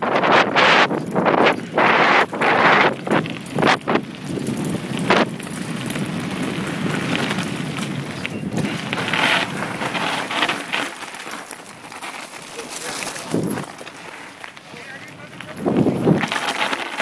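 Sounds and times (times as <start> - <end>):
wind buffeting microphone: 0.0 - 10.6, 13.0 - 16.6
tyres rushing over gravel: 0.8 - 17.0.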